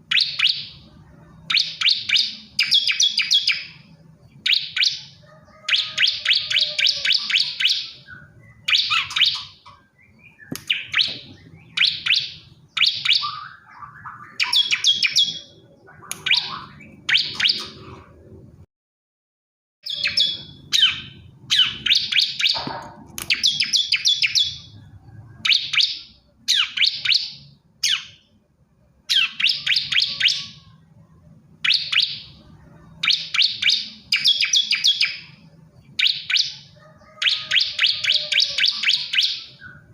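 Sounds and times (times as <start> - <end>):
bird chirping rapidly: 0.0 - 18.0, 19.8 - 28.4, 29.1 - 30.8, 31.6 - 39.9.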